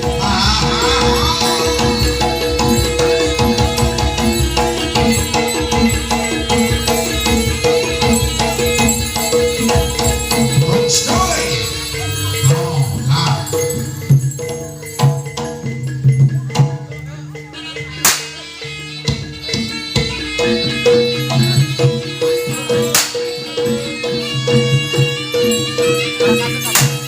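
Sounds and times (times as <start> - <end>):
jingling rattles: 0.0 - 17.6, 19.6 - 27.0
fast percussion: 0.0 - 27.0.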